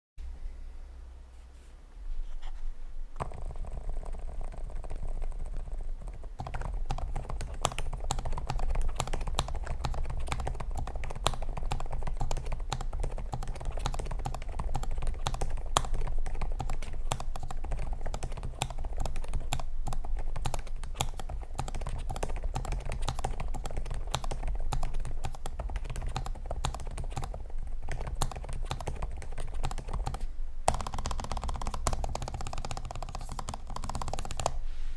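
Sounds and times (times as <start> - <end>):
keyboard typing: 3.2 - 34.6.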